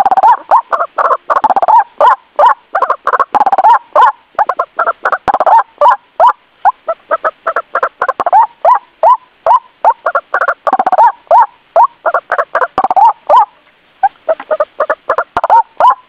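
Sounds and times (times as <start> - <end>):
waterhen calling harsh notes: 0.0 - 16.0.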